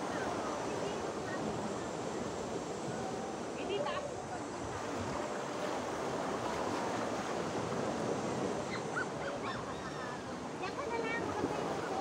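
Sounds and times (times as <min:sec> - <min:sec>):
waves on rocky shore: 0:00.0 - 0:12.0
wind on microphone: 0:00.0 - 0:12.0.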